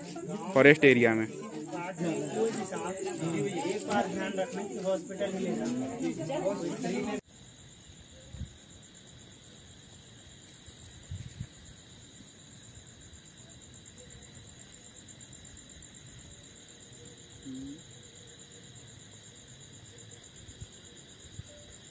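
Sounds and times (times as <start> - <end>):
crickets trilling: 0.0 - 21.9
lower insect tone: 0.0 - 21.9.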